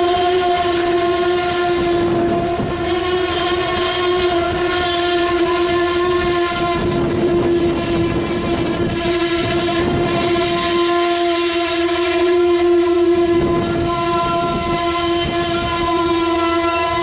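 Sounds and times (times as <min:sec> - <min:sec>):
train cars rolling on rails: 0:00.0 - 0:17.0.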